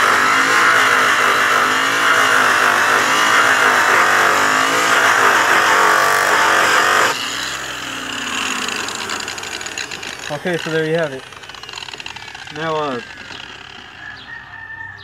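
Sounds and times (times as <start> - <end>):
angle grinder buffing metal: 0.0 - 14.2.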